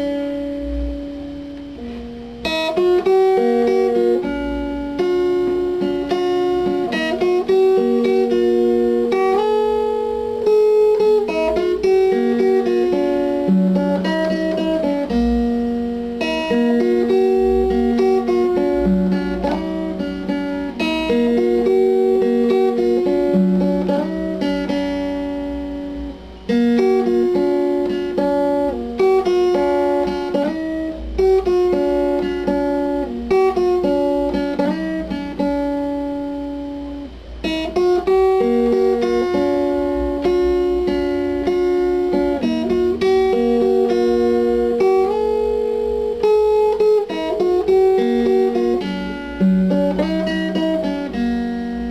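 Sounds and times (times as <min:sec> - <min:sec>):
guitar instrumental music: 0:00.0 - 0:51.9.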